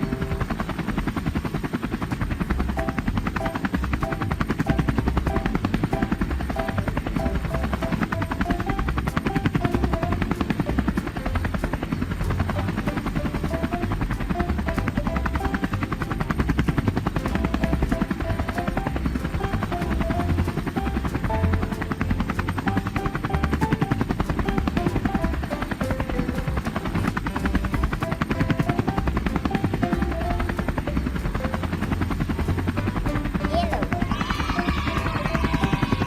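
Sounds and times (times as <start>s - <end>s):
background melody: 0.0s - 36.0s
helicopter rotor chopping: 0.0s - 36.0s.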